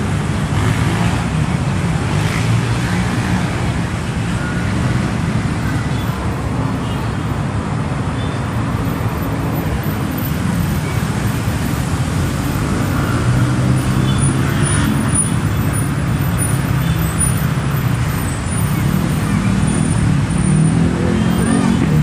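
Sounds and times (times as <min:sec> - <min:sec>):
cars and buses passing: 0:00.0 - 0:22.0.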